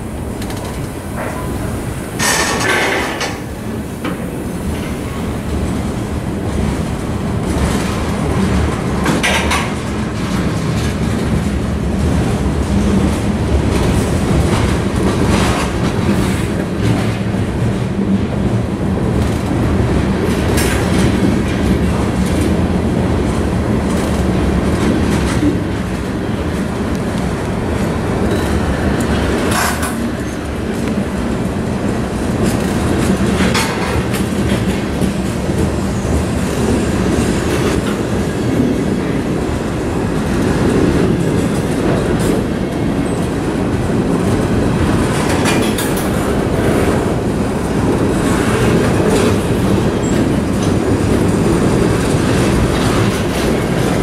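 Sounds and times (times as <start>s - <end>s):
freight train wheels clacking on rails: 0.0s - 54.0s.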